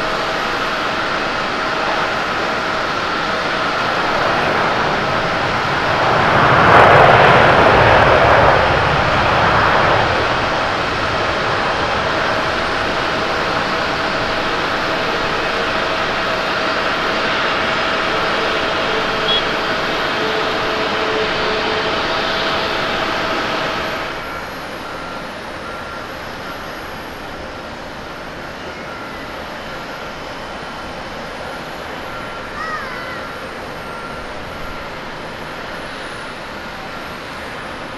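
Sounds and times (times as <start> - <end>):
jet engine noise: 0.0 - 37.9
jet engines humming: 0.0 - 37.9.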